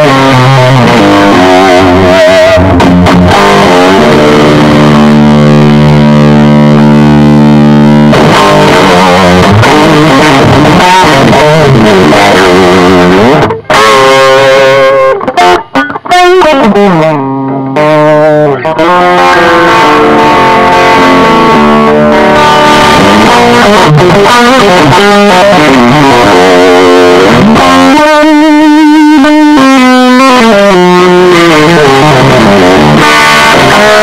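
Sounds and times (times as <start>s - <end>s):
distorted electric guitar: 0.0s - 34.0s.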